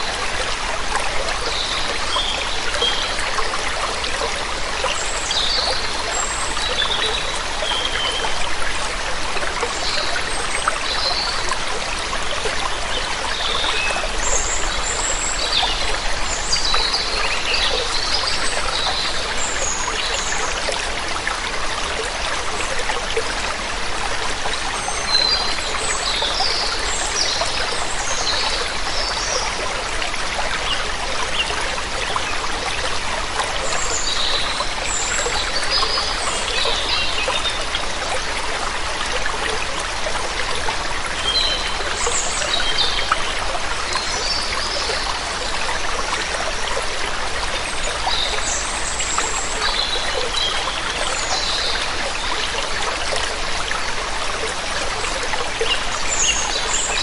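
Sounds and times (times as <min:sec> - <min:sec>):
rushing water stream: 0:00.0 - 0:57.0.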